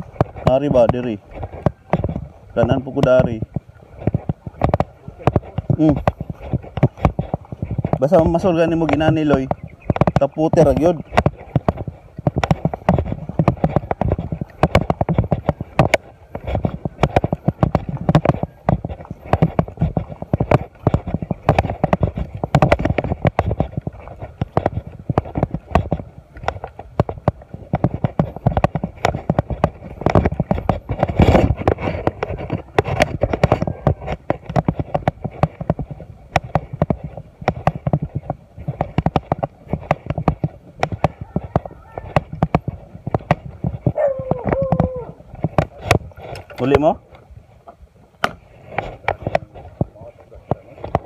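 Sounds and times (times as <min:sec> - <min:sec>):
footsteps on a dirt path: 0:00.0 - 0:51.0.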